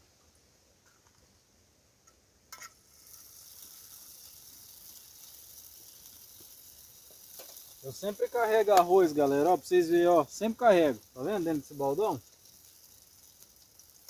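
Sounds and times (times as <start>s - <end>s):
wood fire sizzling hiss: 0.0s - 14.0s.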